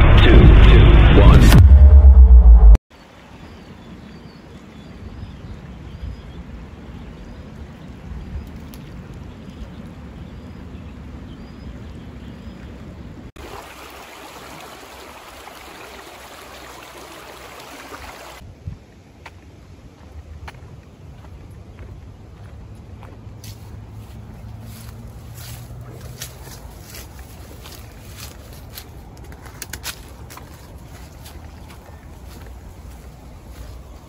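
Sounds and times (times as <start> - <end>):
creek water flowing: 3.0 - 34.0.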